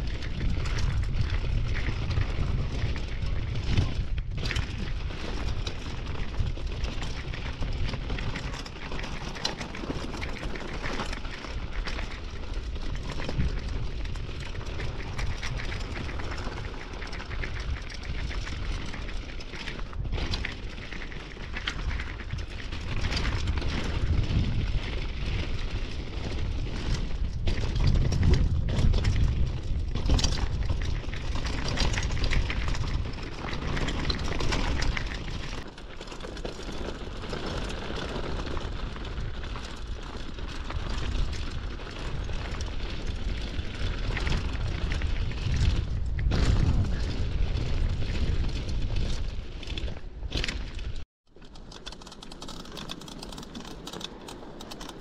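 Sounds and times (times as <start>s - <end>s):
wind buffeting microphone: 0.0s - 35.7s, 37.0s - 51.0s
bike clattering on bumps: 0.0s - 55.0s.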